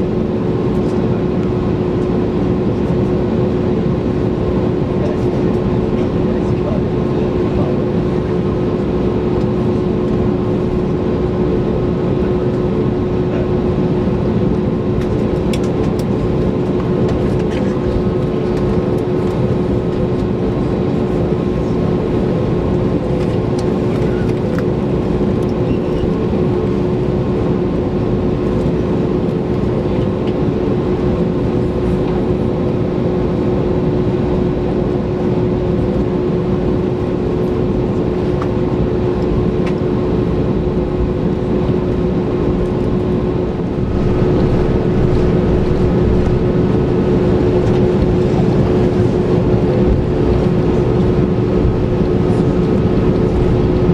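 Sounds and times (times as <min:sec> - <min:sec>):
airplane cabin engine rush: 0:00.0 - 0:53.9
constant hum tone: 0:00.0 - 0:53.9.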